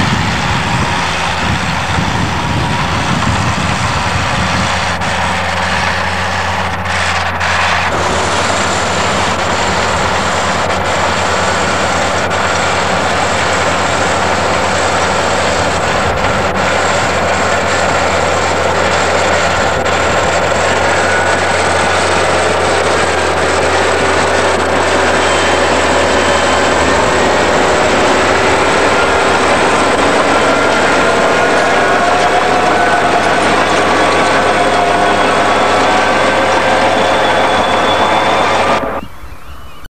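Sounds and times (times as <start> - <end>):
bulldozer diesel engine running: 0.0 - 39.2.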